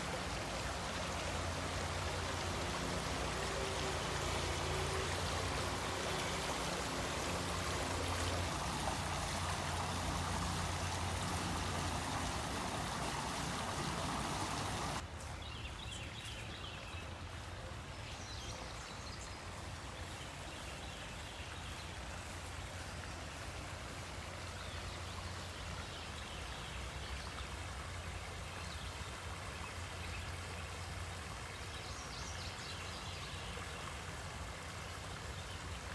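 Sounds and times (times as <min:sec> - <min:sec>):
creek water flowing: 0:00.0 - 0:35.9.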